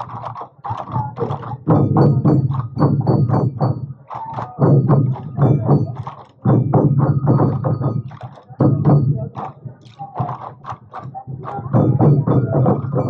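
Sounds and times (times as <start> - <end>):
massed taiko drums beating: 0.0 - 13.0.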